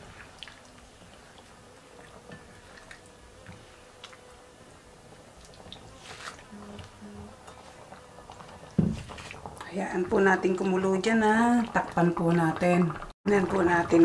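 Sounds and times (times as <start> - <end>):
broth bubbling in a wok: 0.0 - 14.0.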